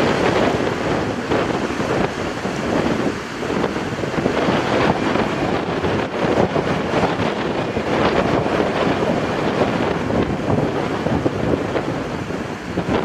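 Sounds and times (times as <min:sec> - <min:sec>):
jet engines rushing: 0:00.0 - 0:13.0
wind buffeting microphone: 0:00.0 - 0:13.0.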